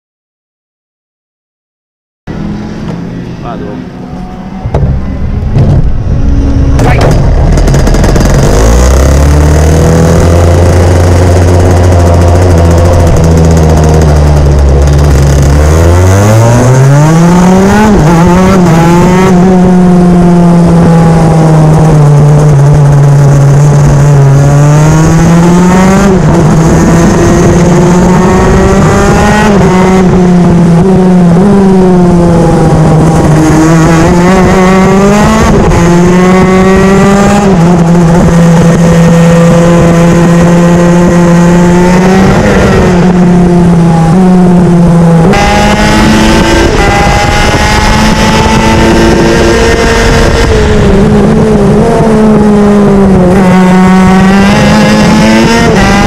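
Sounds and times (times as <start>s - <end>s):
kart two-stroke engine revving: 5.8s - 56.0s.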